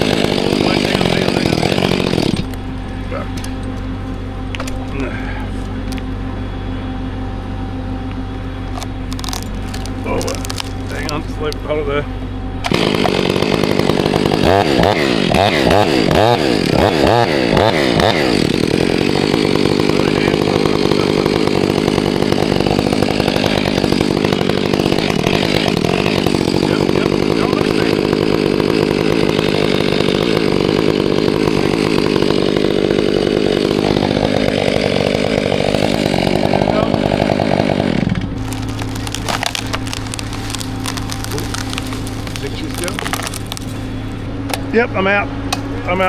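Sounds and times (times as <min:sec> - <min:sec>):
chainsaw cutting wood: 0:00.0 - 0:04.9, 0:08.8 - 0:11.5, 0:12.6 - 0:44.3
chainsaw revving: 0:00.0 - 0:05.6, 0:08.8 - 0:11.6, 0:12.6 - 0:44.3.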